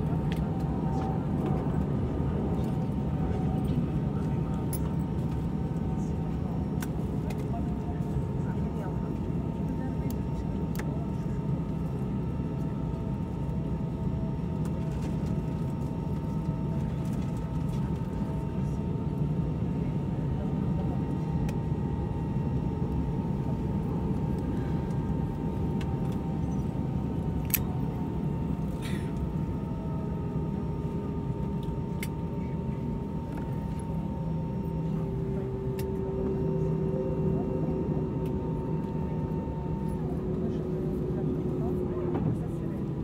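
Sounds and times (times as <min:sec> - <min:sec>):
jet engines idling rumble: 0:00.0 - 0:43.0.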